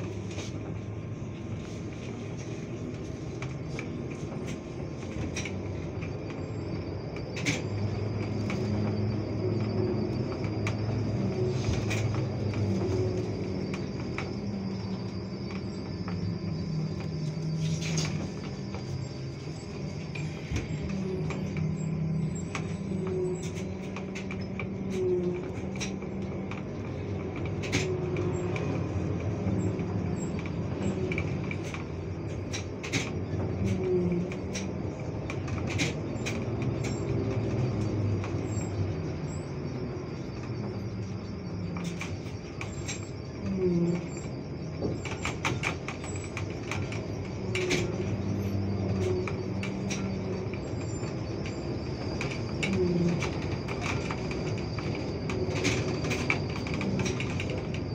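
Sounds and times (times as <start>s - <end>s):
clicks and rattles of bus fittings: 0.0s - 57.9s
low hum and road noise: 0.0s - 57.9s.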